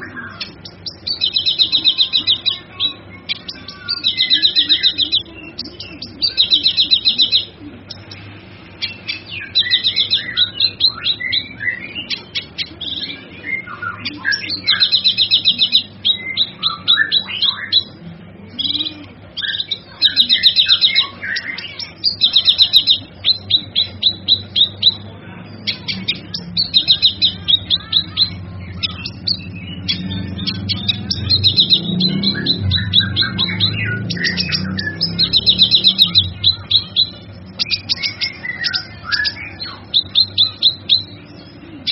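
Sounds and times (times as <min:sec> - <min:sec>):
bird trilling and chirping: 0:00.0 - 0:41.9.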